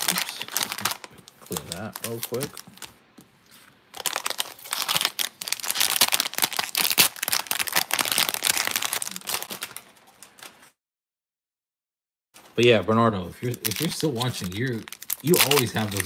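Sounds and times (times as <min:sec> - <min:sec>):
plastic bag crinkling: 0:00.0 - 0:10.7, 0:13.4 - 0:16.0.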